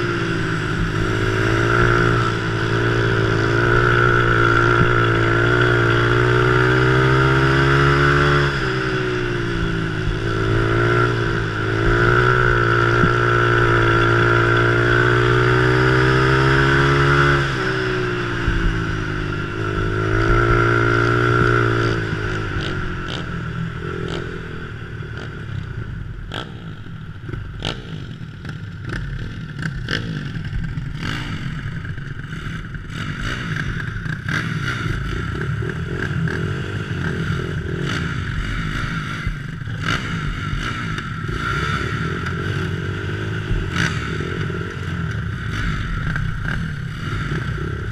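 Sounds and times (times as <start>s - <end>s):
small engine revving: 0.0s - 24.6s, 27.4s - 47.9s.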